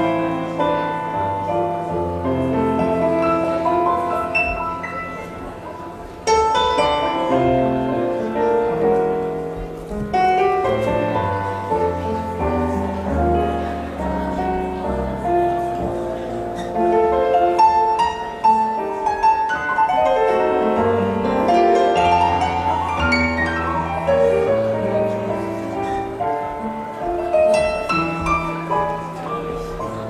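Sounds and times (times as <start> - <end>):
piano playing: 0.0 - 30.0.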